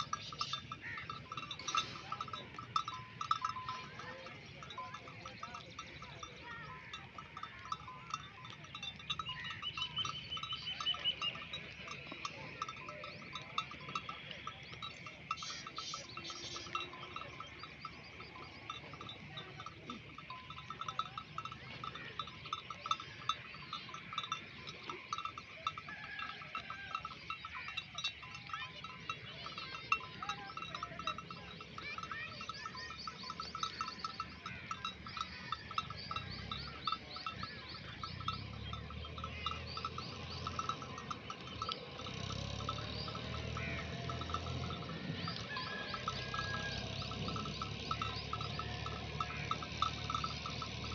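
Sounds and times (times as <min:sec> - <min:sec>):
sheep bells clinking: 0:00.0 - 0:50.9.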